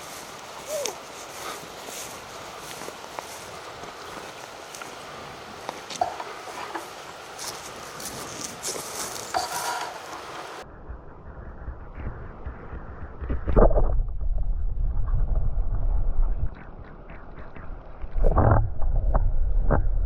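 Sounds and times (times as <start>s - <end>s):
steady outdoor hiss: 0.0s - 20.0s
wind buffeting microphone: 0.0s - 20.0s.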